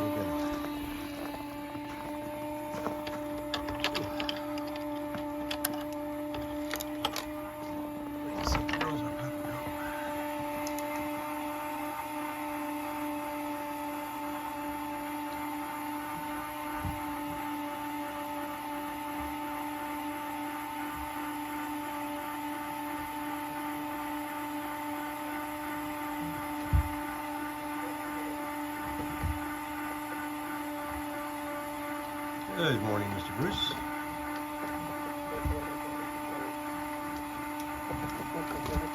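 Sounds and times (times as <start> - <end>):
steady machine hum: 0.0 - 38.9.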